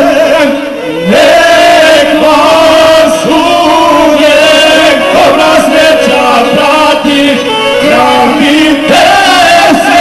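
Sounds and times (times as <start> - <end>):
men singing folk song: 0.0 - 10.0.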